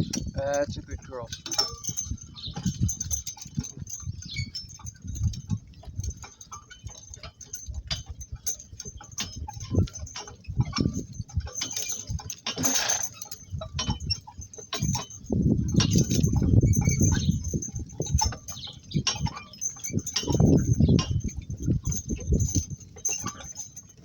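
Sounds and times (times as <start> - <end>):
harness clinking: 0.0 - 24.0
hooves and cart knocking: 0.0 - 24.0.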